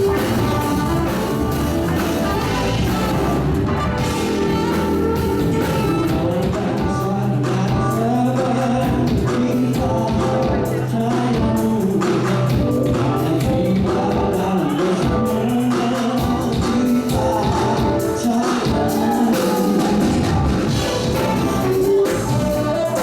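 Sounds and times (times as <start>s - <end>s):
drums and cymbals: 0.0s - 23.0s.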